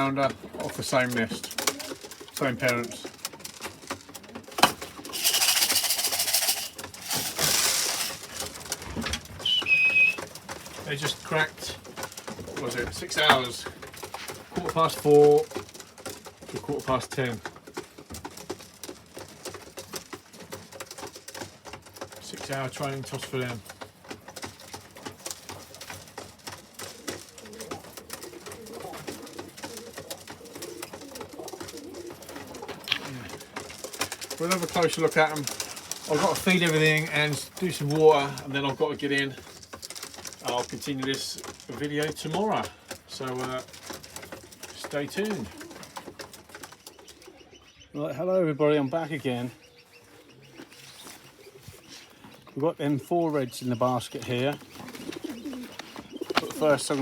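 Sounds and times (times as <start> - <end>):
loud rustling of pigeons: 0.0 - 57.0.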